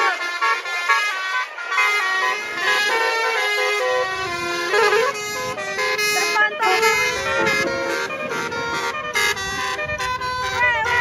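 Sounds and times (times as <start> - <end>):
bus engine rumbling: 0.0 - 11.0
musical air horn tune: 0.0 - 11.0.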